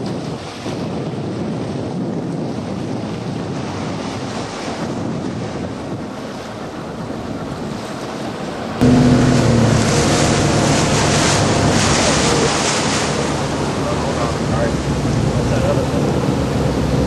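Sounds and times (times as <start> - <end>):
water churning along boat hulls: 0.0 - 17.0
wind buffeting microphone: 0.0 - 17.0.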